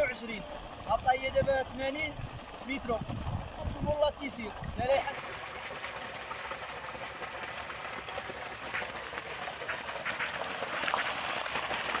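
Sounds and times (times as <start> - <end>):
water gushing and splashing: 0.0 - 12.0.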